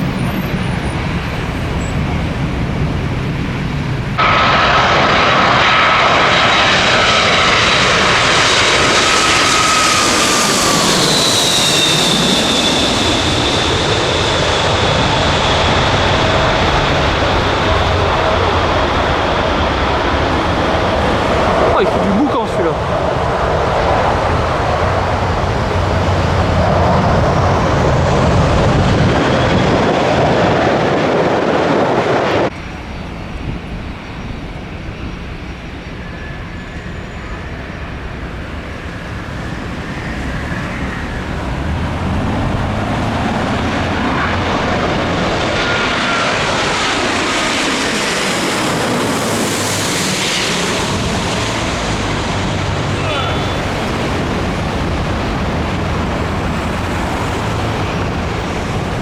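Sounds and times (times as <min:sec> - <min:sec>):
faint engine whine: 0:00.0 - 0:59.0
jet airliner approaching: 0:00.0 - 0:59.0
jet engines running loud: 0:00.0 - 0:59.0.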